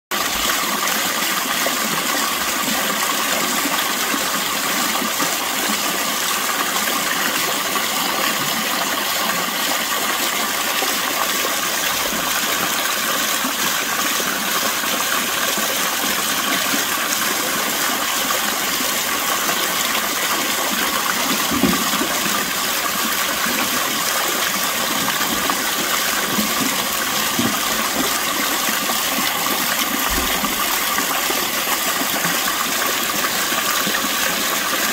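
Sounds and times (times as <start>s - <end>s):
water pouring over rock: 0.1s - 34.9s.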